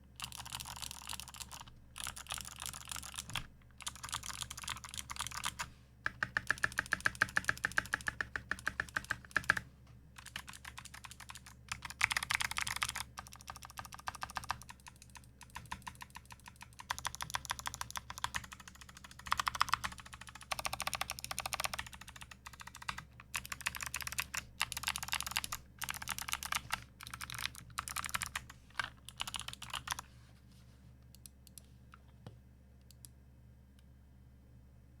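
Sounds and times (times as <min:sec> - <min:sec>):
typing on mechanical keyboard: 0:00.2 - 0:09.6, 0:10.2 - 0:30.0.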